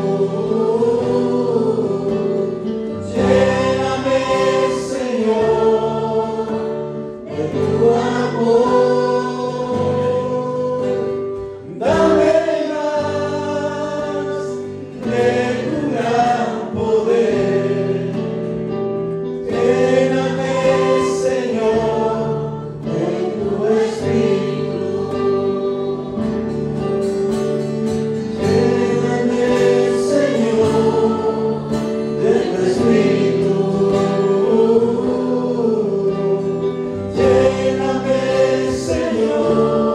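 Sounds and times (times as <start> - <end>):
choir singing worship song: 0.0 - 39.9
instrumental accompaniment: 0.0 - 39.9.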